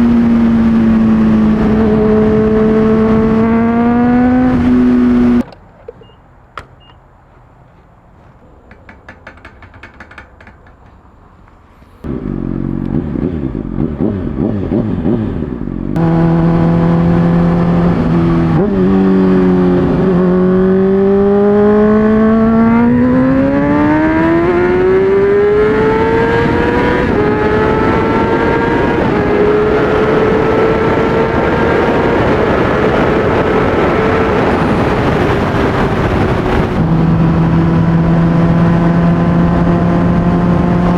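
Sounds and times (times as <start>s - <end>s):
motorcycle exhaust revving: 0.0s - 5.5s, 12.0s - 40.9s.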